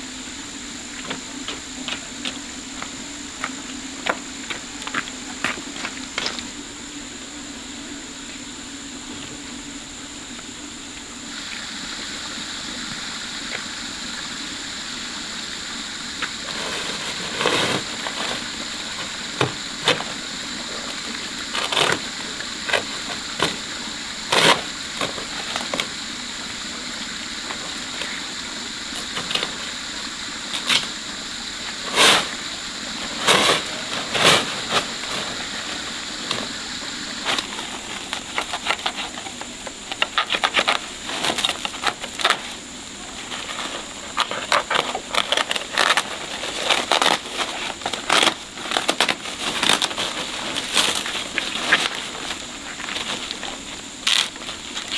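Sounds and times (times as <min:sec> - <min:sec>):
steady hiss: 0:00.0 - 0:54.9.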